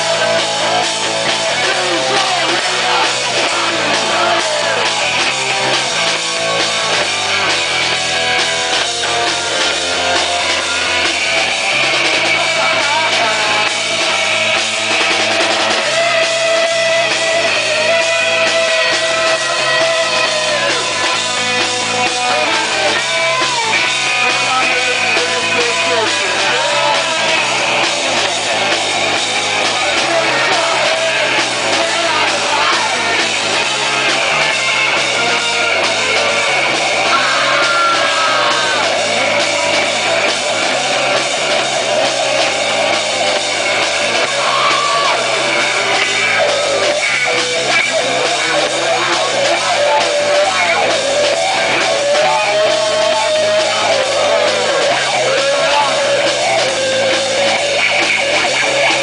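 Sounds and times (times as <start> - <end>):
punk rock band playing live: 0.0 - 59.0.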